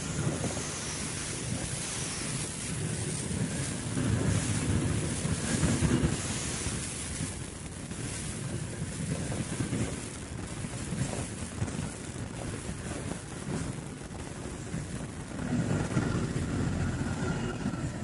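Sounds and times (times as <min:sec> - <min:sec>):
low uneven rumble: 0:00.0 - 0:18.0
wind buffeting microphone: 0:00.0 - 0:18.0.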